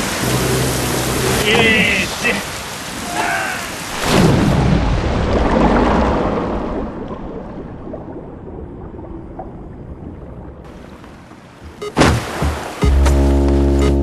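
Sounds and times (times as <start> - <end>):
muffled underwater rush and bubbling: 0.0 - 13.0.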